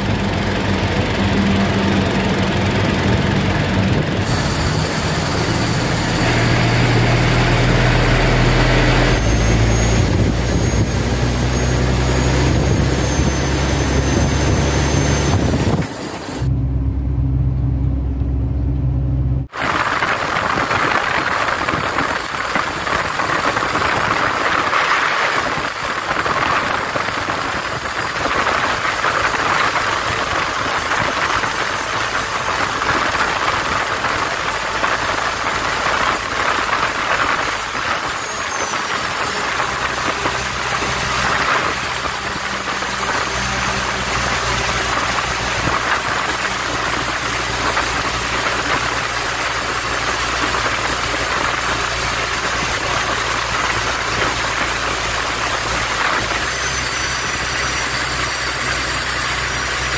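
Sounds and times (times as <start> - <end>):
truck engine drone: 0.0 - 59.9
wind and road noise rushing: 0.0 - 59.9.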